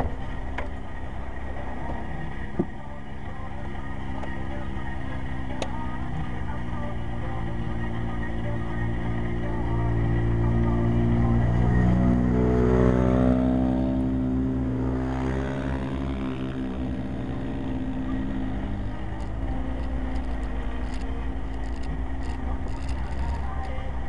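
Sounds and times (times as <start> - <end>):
low road rumble: 0.0 - 24.0
vehicle engine revving: 0.0 - 24.0.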